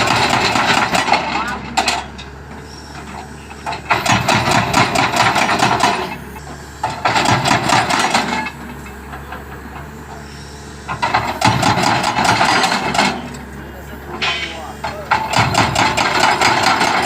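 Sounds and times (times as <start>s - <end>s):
hydraulic breaker hammer pounding: 0.0s - 2.4s, 3.0s - 17.0s
excavator engine running: 0.0s - 17.0s.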